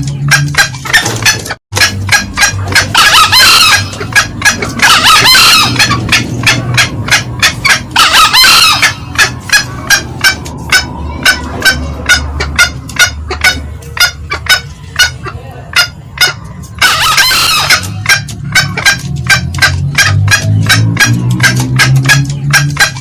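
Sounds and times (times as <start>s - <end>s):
junglefowl cackling clucks: 0.0s - 23.0s
junglefowl crowing calls: 0.2s - 23.0s.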